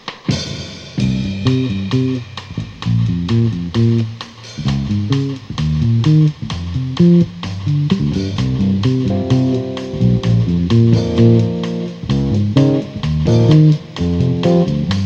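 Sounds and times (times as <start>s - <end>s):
drum kit keeping time: 0.0s - 15.0s
jazz guitar chords: 0.3s - 15.0s
electric bass: 1.0s - 15.0s.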